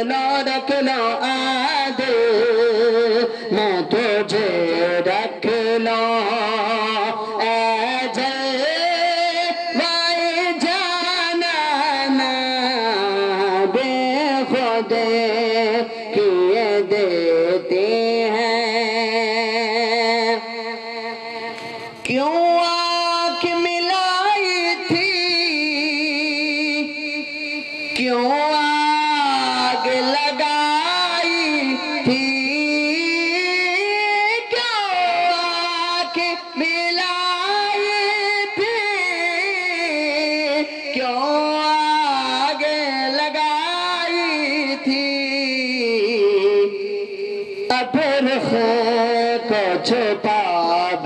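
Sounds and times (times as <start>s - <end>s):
man singing into a microphone: 0.0s - 51.0s.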